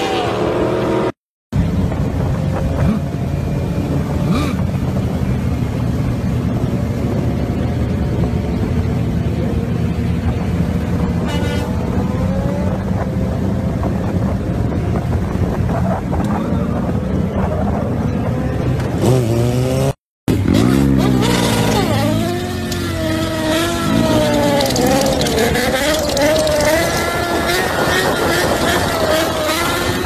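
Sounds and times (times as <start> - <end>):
highway traffic: 0.0 - 30.0
motorcycle engine: 0.0 - 30.0.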